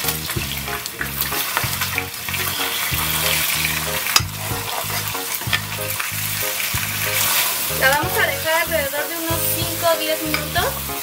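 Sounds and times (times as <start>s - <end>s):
background music with bass: 0.0s - 11.0s
meat sizzling in a pot: 0.0s - 11.0s.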